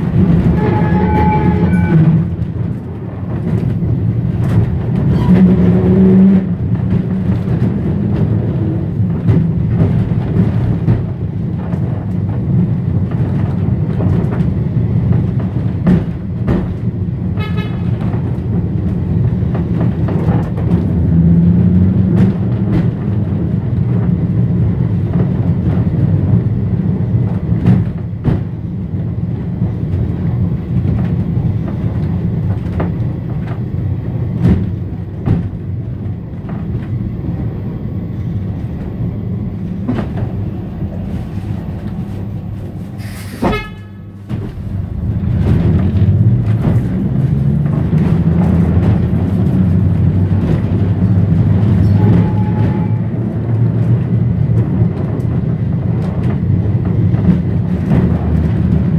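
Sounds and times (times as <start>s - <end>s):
clicks and knocks from track: 0.0s - 58.9s
tram motors and wheels rumbling: 0.0s - 58.9s.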